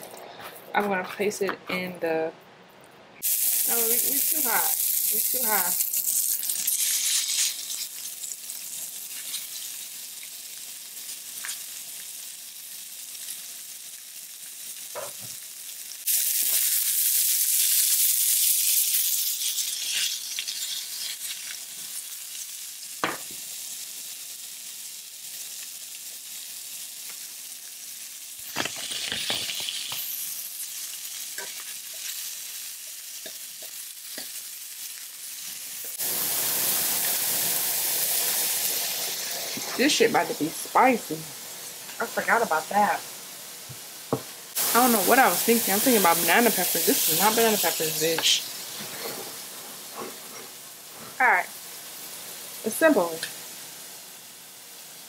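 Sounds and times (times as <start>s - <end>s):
chicken sizzling in a hot pan: 3.2s - 55.0s.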